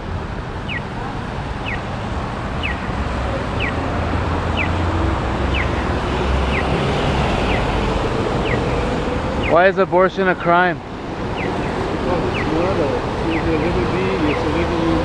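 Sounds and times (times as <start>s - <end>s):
traffic on wet street: 0.0s - 15.0s
pedestrian crossing signal chirp: 0.6s - 10.4s, 11.2s - 15.0s.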